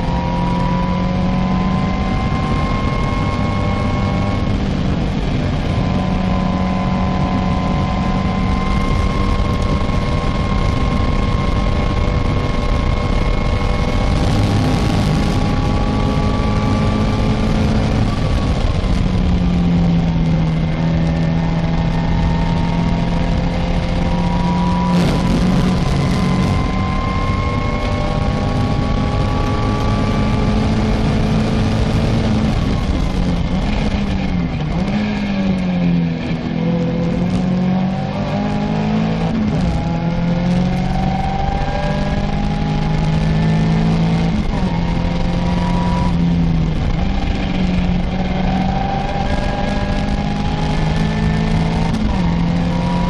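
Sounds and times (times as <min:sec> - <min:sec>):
car engine at high revs: 0:00.0 - 0:53.0
heavy wind noise: 0:00.0 - 0:53.0.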